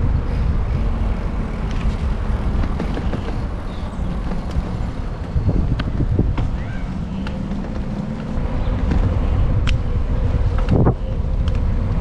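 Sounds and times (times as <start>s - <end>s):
road rumble: 0.0s - 12.0s
wind on microphone: 0.0s - 12.0s.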